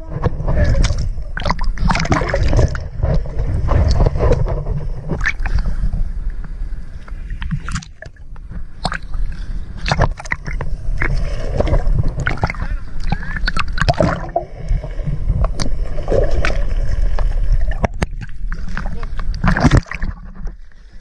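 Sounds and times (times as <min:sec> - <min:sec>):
seawater sloshing and splashing: 0:00.0 - 0:05.7, 0:07.2 - 0:21.0
heavy low rumble: 0:00.0 - 0:06.8, 0:09.6 - 0:20.6.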